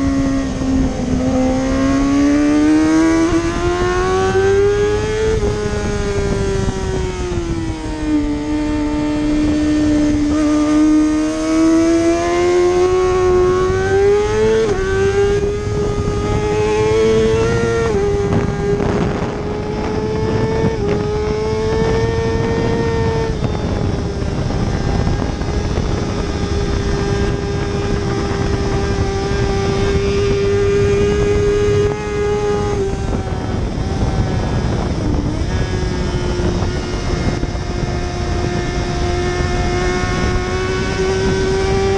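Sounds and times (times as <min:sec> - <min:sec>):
motorcycle engine at high revs: 0:00.0 - 0:41.9.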